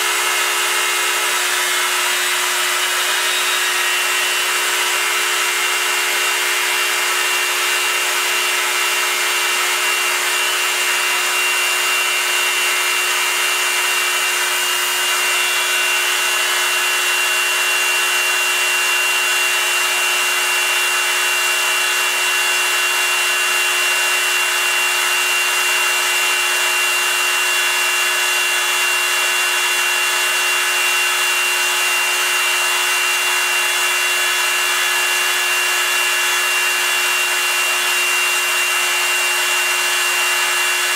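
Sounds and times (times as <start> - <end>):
milling machine spindle whine: 0.0 - 40.9.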